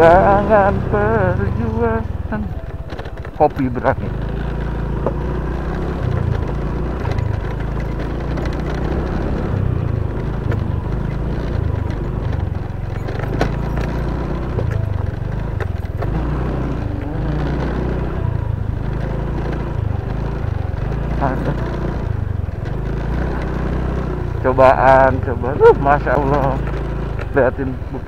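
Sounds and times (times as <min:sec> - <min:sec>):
scooter engine running under load: 0:00.0 - 0:28.0.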